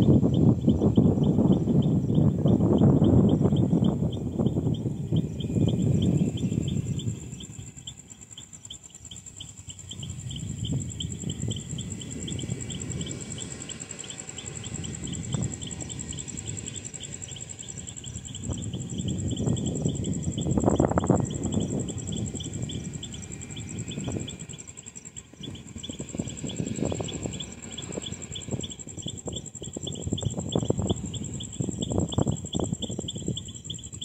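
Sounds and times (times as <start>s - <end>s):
insects chirping: 0.0s - 34.0s
low rumbling noise: 0.0s - 34.0s
thin high buzz: 0.0s - 34.0s.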